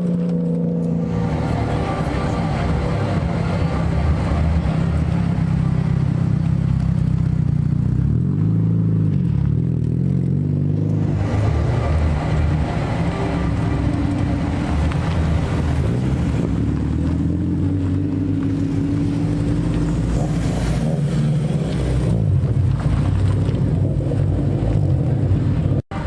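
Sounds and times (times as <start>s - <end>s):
car engines running: 0.0s - 26.0s.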